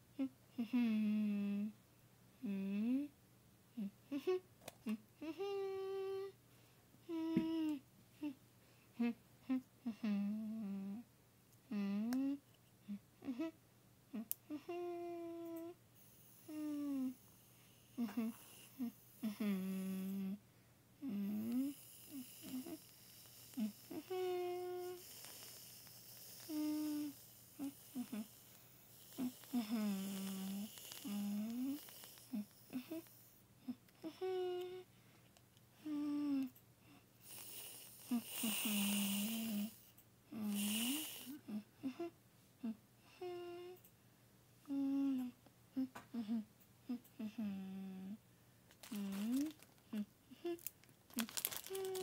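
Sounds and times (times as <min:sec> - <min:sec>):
person humming: 0:00.1 - 0:01.8, 0:02.4 - 0:06.4, 0:07.0 - 0:08.4, 0:09.0 - 0:20.4, 0:21.0 - 0:34.9, 0:35.8 - 0:43.9, 0:44.6 - 0:48.2, 0:48.8 - 0:52.0.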